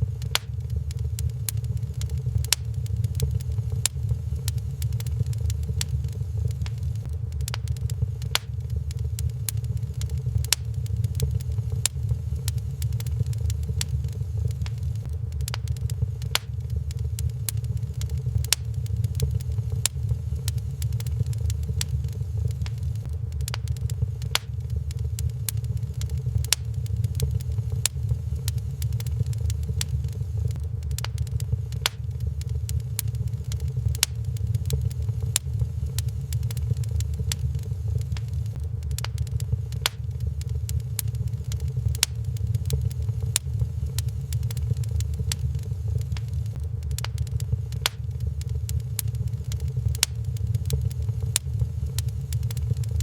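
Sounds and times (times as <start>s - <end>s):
fire popping and snapping: 0.0s - 53.0s
low fire rumble: 0.0s - 53.0s
wood fire crackling: 0.0s - 53.0s.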